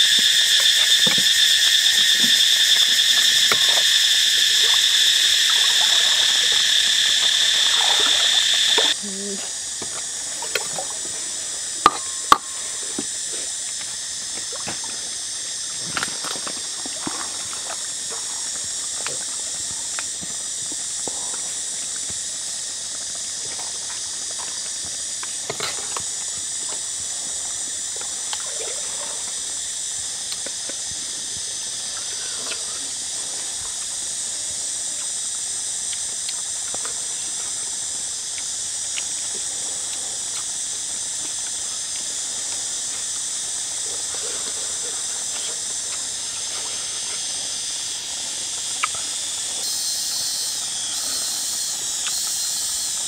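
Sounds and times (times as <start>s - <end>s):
high-pitched outdoor hiss: 0.0s - 53.0s.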